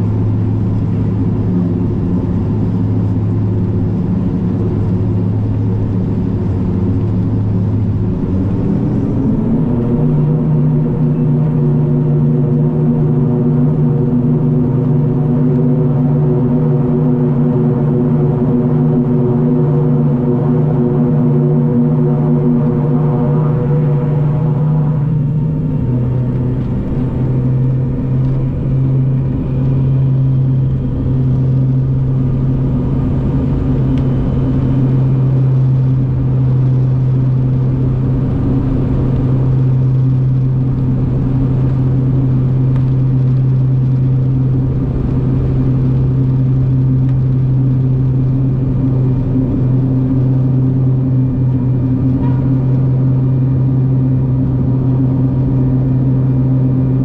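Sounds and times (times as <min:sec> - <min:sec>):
engine hum: 0:00.0 - 0:57.0
propeller drone: 0:00.0 - 0:57.0.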